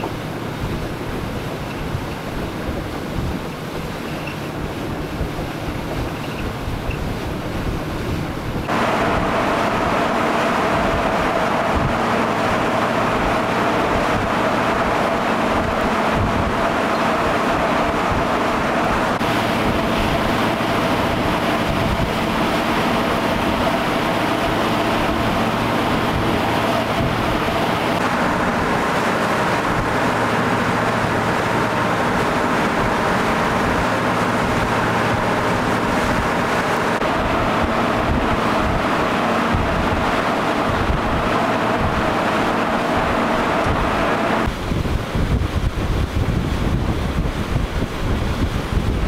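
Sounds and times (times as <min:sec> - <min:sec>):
engine drone: 0:00.0 - 0:49.0
wind noise: 0:00.0 - 0:49.0.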